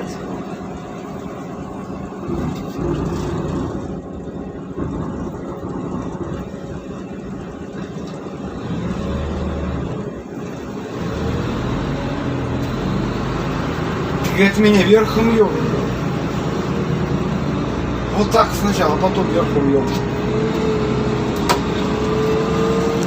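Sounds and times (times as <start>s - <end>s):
bus engine low drone: 0.0s - 23.0s.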